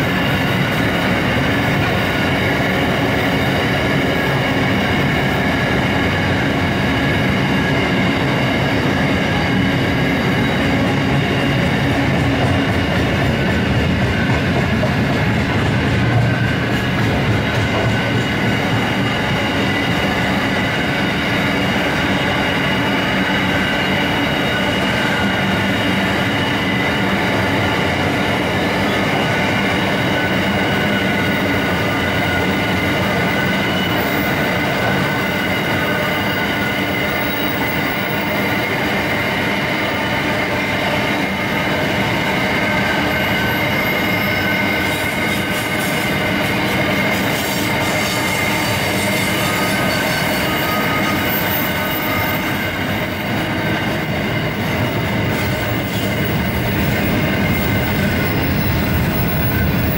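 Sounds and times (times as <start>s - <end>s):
freight wagons rumbling on rail: 0.0s - 59.9s.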